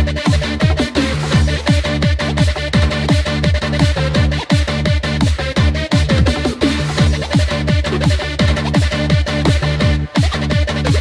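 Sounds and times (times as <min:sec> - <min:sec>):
bass line: 0:00.0 - 0:11.0
electronic dance music: 0:00.0 - 0:11.0
fast kick drum: 0:00.0 - 0:11.0.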